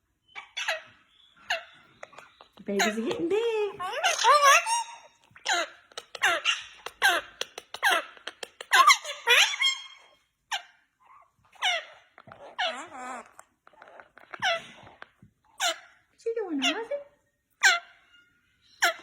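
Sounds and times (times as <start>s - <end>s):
parrots squeaky calls: 0.2s - 19.0s.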